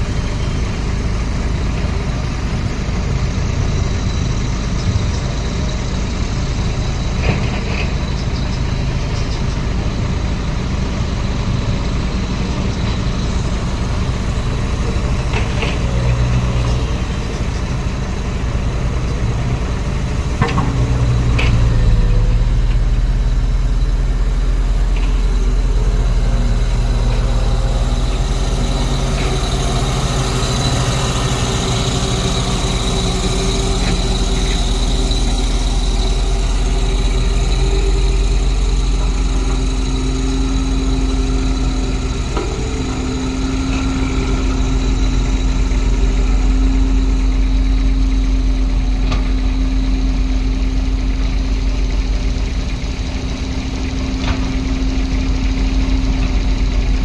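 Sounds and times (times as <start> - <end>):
roller diesel engine running: 0.0 - 57.0.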